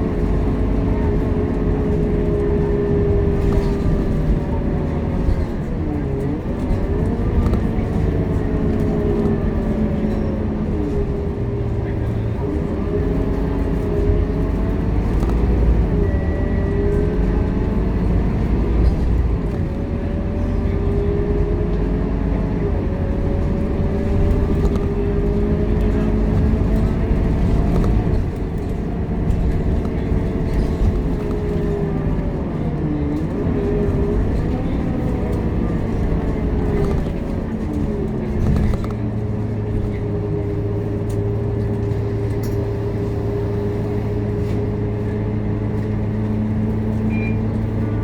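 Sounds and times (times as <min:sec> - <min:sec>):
bus engine rumble: 0:00.0 - 0:48.0
drivetrain whine: 0:00.0 - 0:48.0.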